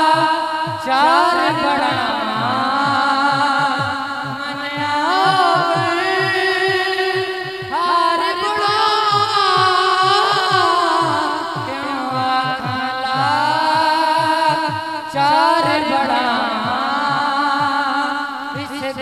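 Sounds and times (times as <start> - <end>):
low repeating beat: 0.0 - 19.0
man singing into microphone: 0.0 - 19.0.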